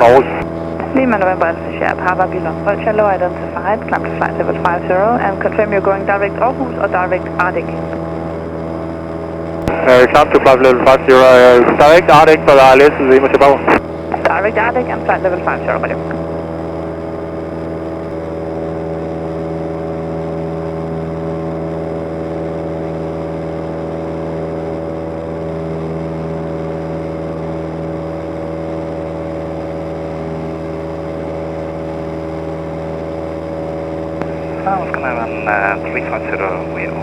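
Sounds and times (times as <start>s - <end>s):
airplane engine and propeller droning: 0.0s - 37.0s.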